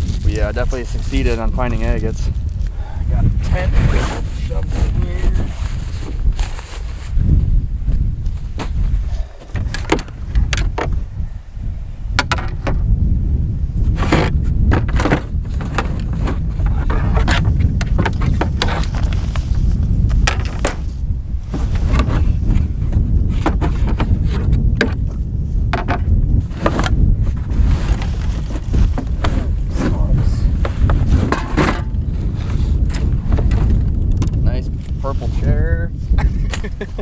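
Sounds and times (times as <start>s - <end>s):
camping gear rustling and knocking: 0.0s - 11.2s, 12.1s - 37.0s
wind buffeting microphone: 0.0s - 37.0s.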